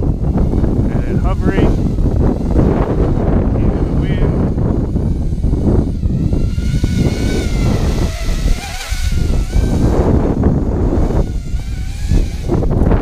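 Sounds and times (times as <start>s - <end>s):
quadcopter motors whining: 0.0s - 13.0s
wind buffeting on microphone: 0.0s - 13.0s.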